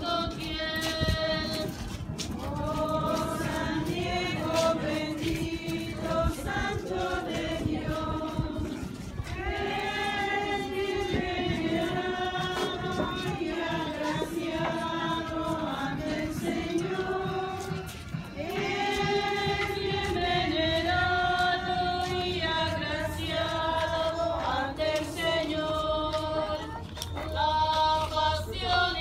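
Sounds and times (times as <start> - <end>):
group singing a hymn: 0.0 - 29.0.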